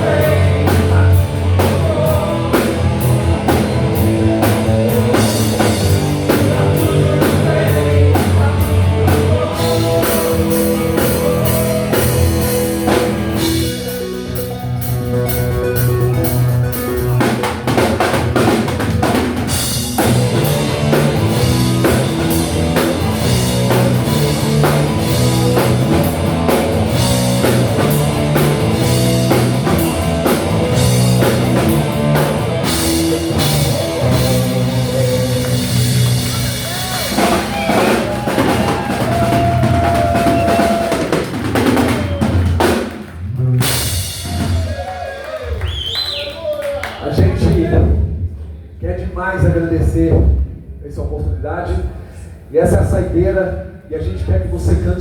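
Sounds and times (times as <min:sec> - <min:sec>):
live rock band playing: 0:00.0 - 0:45.6.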